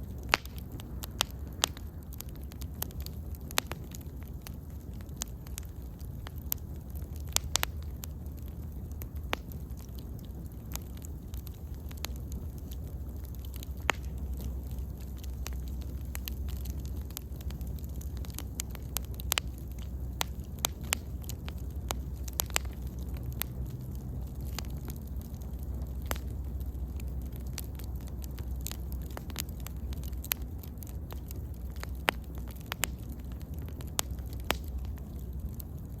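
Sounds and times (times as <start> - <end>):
fire low rumble: 0.0 - 36.0
wood crackling and popping: 0.0 - 36.0.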